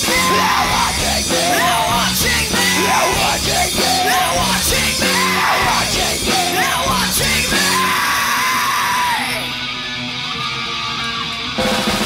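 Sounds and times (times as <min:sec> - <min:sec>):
live punk band playing: 0:00.0 - 0:12.0.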